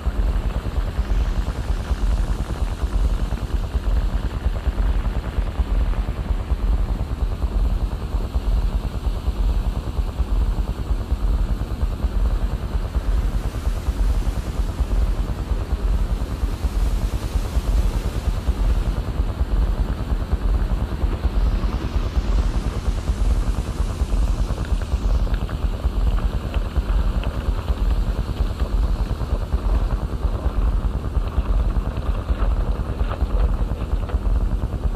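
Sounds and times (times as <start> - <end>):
fluttering low rumble: 0.0 - 34.9.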